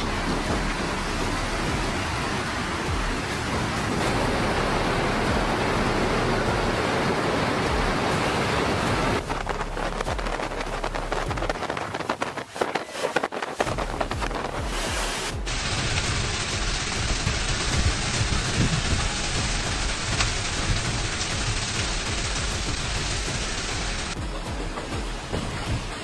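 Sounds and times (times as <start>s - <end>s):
driving rain: 0.0s - 12.6s, 13.2s - 26.0s
hurricane wind: 0.0s - 26.0s.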